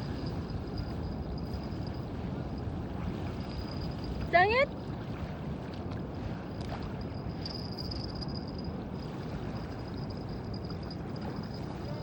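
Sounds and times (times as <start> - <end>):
boat rumbling on water: 0.0 - 12.0.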